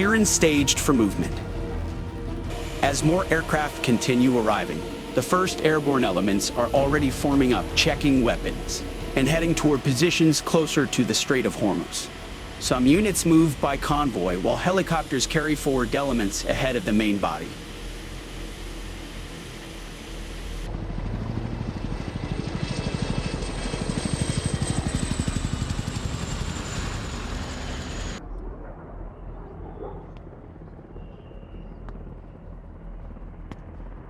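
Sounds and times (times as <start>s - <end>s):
helicopter rotor blades chopping: 0.0s - 28.2s
high turbine whine: 0.0s - 34.0s.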